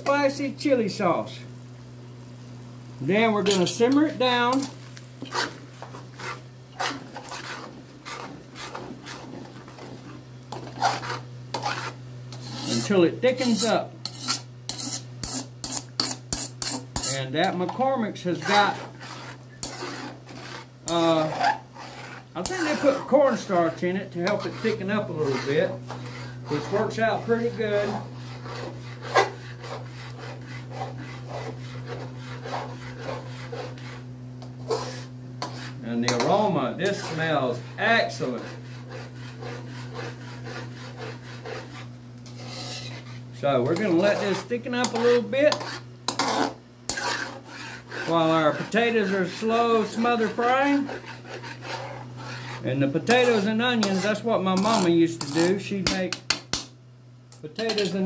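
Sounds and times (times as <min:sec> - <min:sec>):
steady low hum: 0:00.0 - 0:58.0
metal spatula scraping wok: 0:03.1 - 0:56.0, 0:57.6 - 0:58.0.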